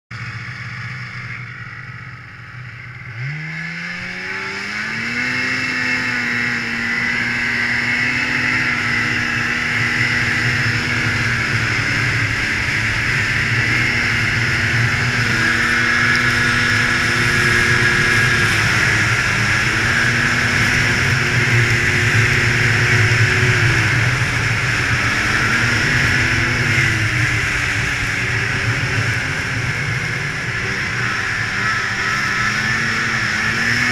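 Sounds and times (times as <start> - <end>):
snowmobile engine pulling away: 0.2 - 33.9.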